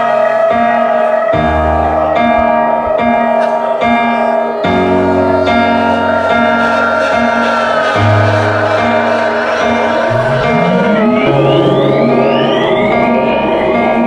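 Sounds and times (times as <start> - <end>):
industrial electronic music: 0.0 - 14.0.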